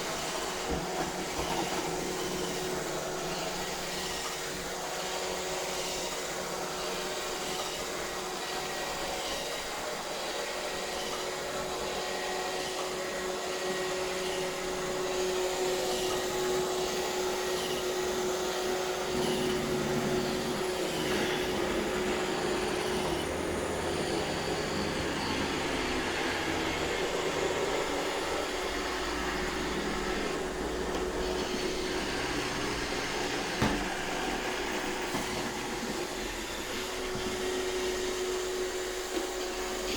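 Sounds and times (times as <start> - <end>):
robot vacuum whine and hum: 0.0 - 39.9.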